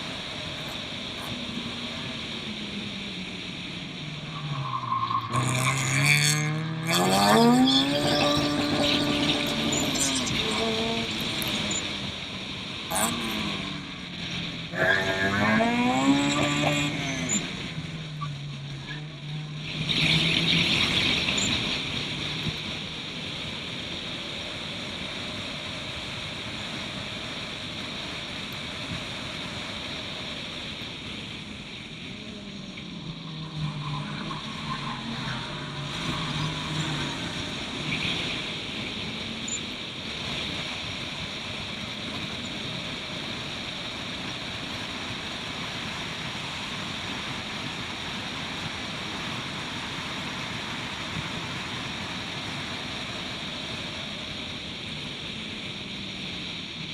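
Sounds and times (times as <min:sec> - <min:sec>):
race car engine running hard: 0:00.0 - 0:56.9
rushing noise: 0:00.0 - 0:56.9.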